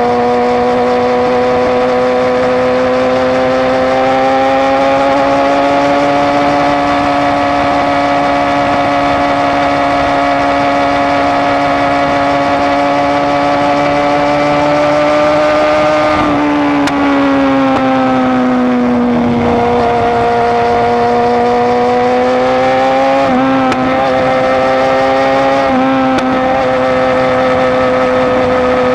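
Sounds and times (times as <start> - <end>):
motorcycle engine running loud: 0.0 - 28.9.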